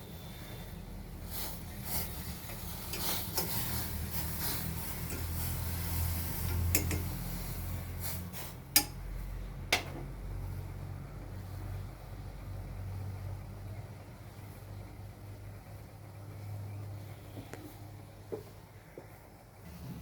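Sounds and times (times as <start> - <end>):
tea boiling on gas burner: 0.0 - 20.0.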